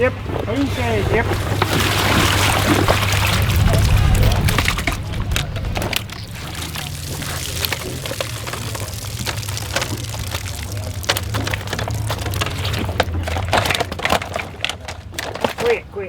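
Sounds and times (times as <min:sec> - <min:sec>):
water pouring and splashing: 0:00.0 - 0:15.8
steady low hum: 0:00.0 - 0:16.0.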